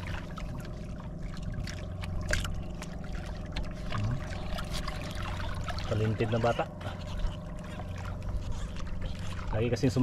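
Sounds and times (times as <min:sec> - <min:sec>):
boat engine droning: 0:00.0 - 0:10.0
water splashing against hull: 0:00.0 - 0:10.0.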